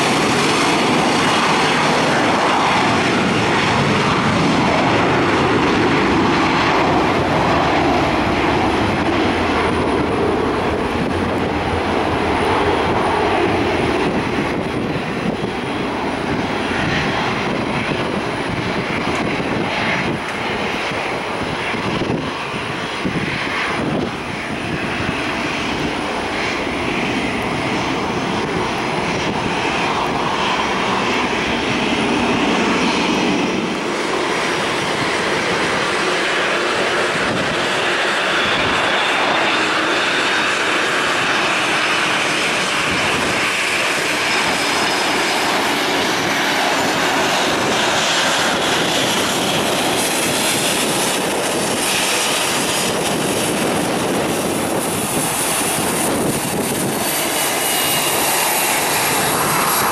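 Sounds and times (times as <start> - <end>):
jet engine whine on approach: 0.0 - 59.9
jet engines at takeoff: 0.0 - 59.9.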